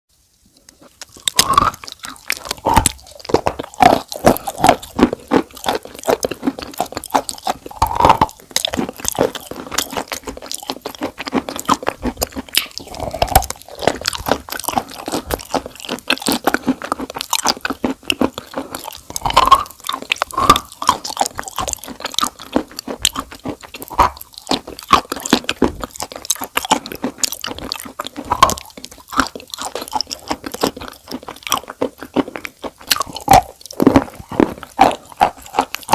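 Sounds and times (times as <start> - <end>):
chewing crunchy food: 0.5 - 35.9.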